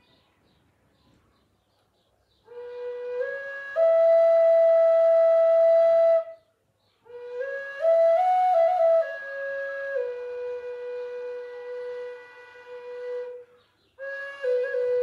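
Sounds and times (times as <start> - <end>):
wooden flute slow melody: 2.4 - 15.0.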